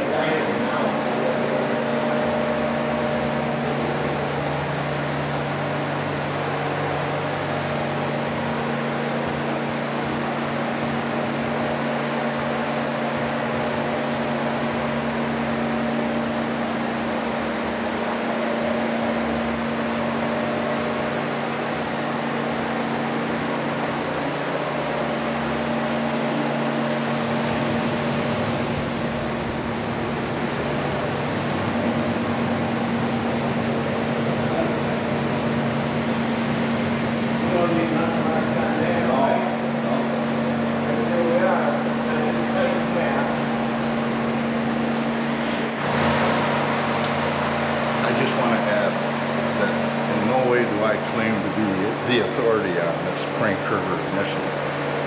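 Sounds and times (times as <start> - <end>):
mechanical hum with tones: 0.0 - 55.0.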